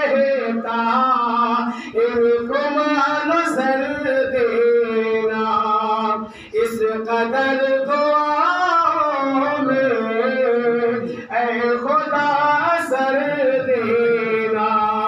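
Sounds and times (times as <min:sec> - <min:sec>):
man singing long held notes: 0:00.0 - 0:15.0.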